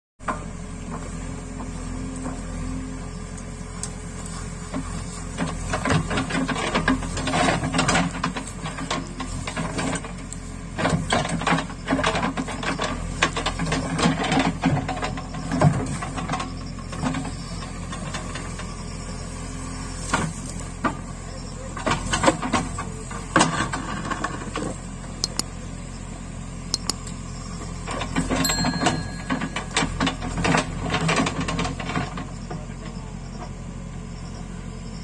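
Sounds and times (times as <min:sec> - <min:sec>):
diesel engine running: 0:00.2 - 0:35.0.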